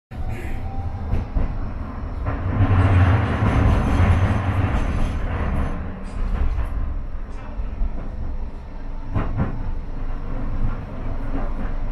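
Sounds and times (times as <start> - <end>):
tram hum and rumble: 0.1 - 11.9.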